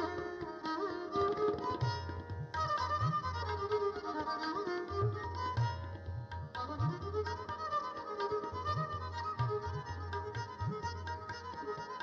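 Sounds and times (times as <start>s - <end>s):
tabla drumming: 0.0s - 12.0s.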